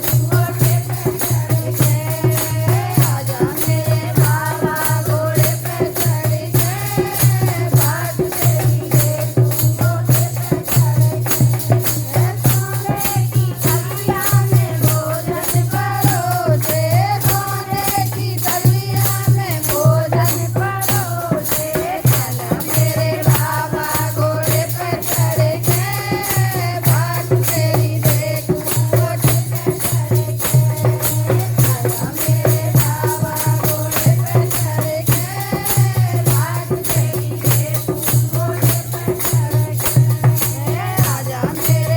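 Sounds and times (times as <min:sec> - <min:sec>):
rattling percussion: 0:00.0 - 0:41.9.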